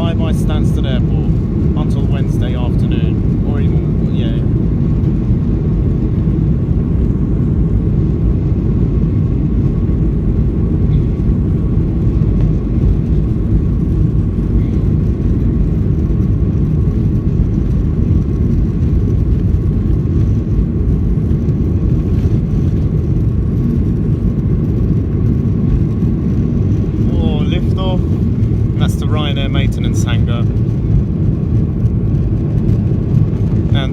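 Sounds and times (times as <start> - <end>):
faint engine whine: 0.0 - 33.9
jet engines rumbling in cabin: 0.0 - 33.9.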